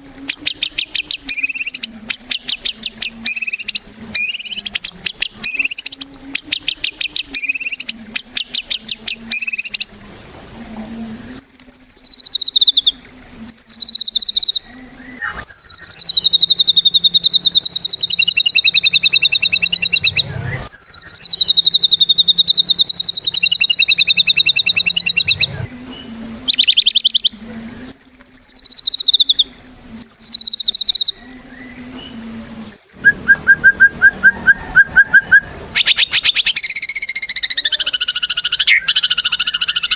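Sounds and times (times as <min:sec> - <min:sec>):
bird singing trills and whistles: 0:00.0 - 0:10.0, 0:11.3 - 0:39.9.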